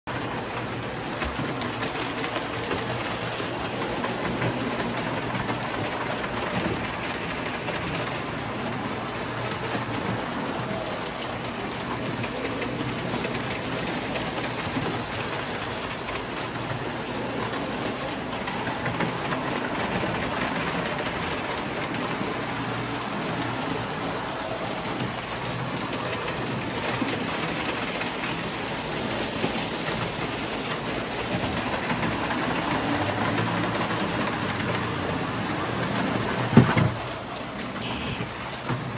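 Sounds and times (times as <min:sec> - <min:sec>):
toy train wheels clattering on rails: 0:00.1 - 0:38.9.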